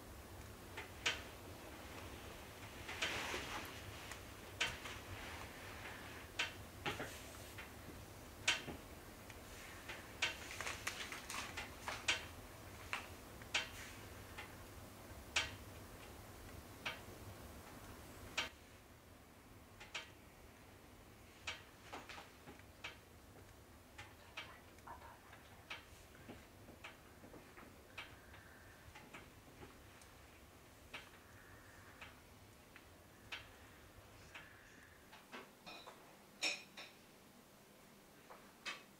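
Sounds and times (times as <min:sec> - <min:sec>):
logs crackling in stove: 0:00.0 - 0:37.0
low steady hum: 0:00.0 - 0:38.9.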